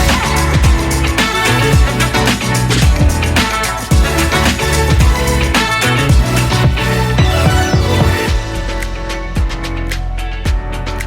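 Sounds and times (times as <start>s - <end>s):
upbeat funk electronic music: 0.0s - 11.0s.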